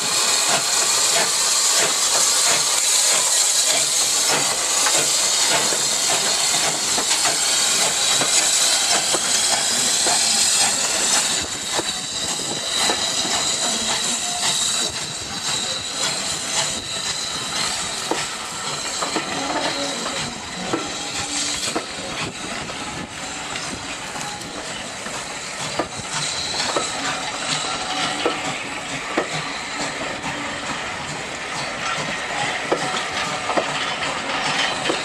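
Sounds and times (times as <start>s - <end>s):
train wheels clicking over rail joints: 0.0s - 35.0s.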